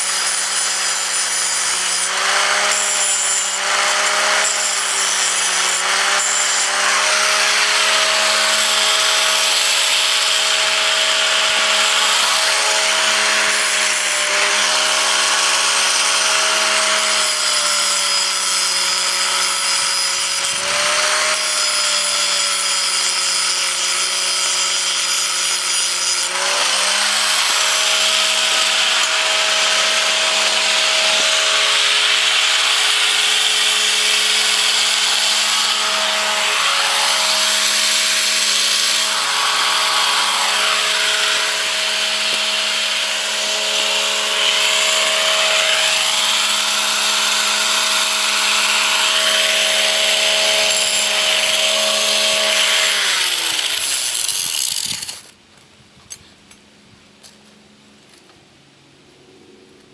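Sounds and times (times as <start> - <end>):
electric grinder grinding steel: 0.0 - 55.3.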